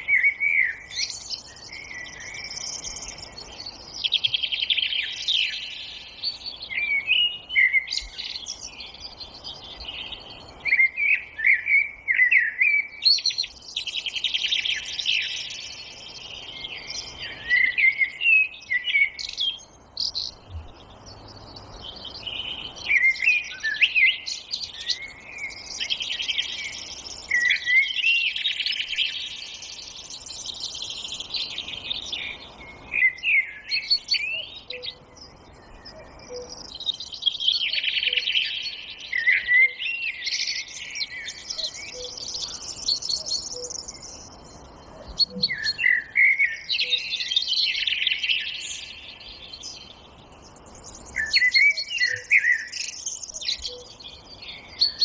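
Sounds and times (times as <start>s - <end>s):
songbirds twittering: 0.0s - 55.0s.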